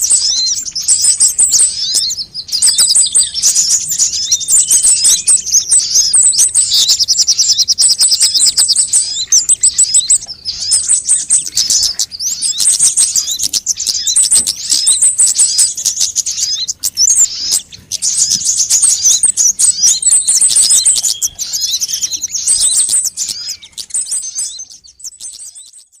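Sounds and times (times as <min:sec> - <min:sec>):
sunbirds chirping and trilling: 0:00.0 - 0:26.0.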